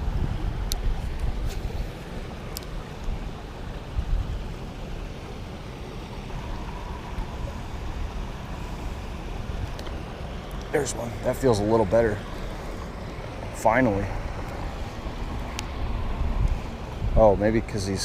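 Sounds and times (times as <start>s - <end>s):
wind rumble on microphone: 0.0s - 5.1s, 6.3s - 18.0s
water rushing through spillway: 0.0s - 18.0s.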